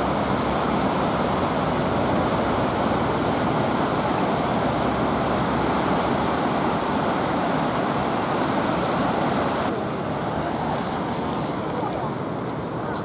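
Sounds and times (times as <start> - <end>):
flood water rushing and churning: 0.0 - 13.0.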